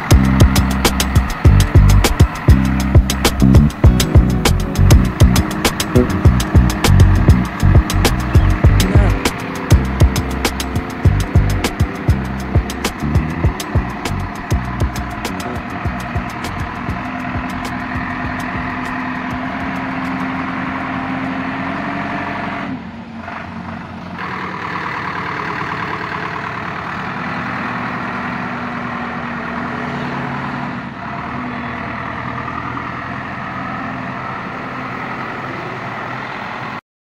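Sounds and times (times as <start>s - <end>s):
diesel engine running: 0.0s - 36.8s.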